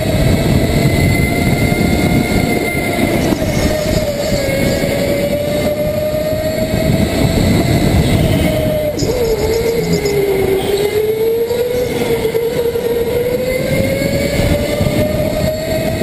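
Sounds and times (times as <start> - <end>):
chassis rumble: 0.0 - 15.5
go-kart motor whine: 0.0 - 16.0.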